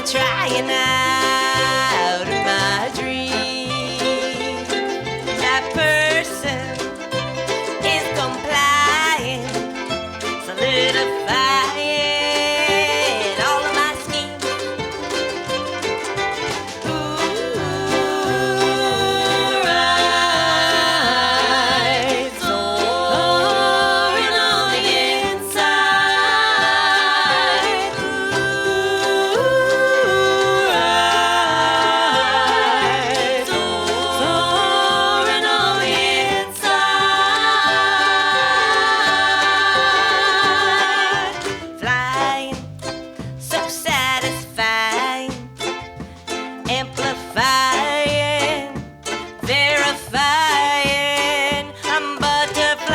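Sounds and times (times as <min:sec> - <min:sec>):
live band with ukulele: 0:00.0 - 0:52.9.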